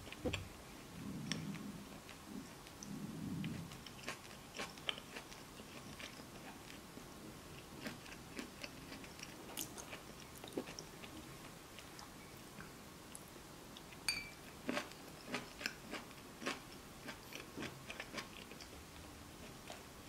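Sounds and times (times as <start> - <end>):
person chewing food: 0.1 - 6.9, 7.5 - 12.7, 13.8 - 18.8, 19.4 - 19.9.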